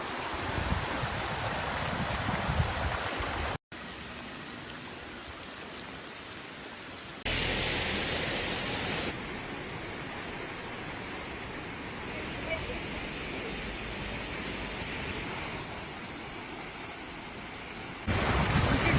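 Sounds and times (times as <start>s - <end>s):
rushing water: 0.0s - 18.9s.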